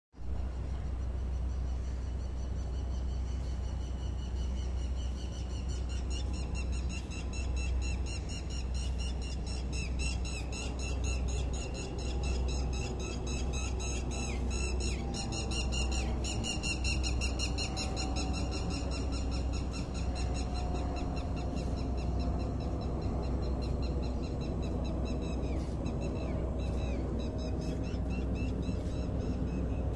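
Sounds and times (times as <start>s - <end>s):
engine rumble: 0.2s - 29.9s
high wavering whine: 0.2s - 29.9s.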